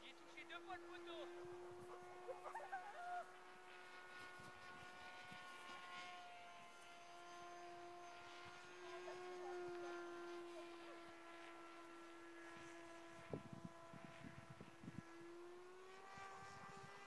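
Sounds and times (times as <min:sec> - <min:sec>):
model plane electric motor whine: 0:00.0 - 0:17.0.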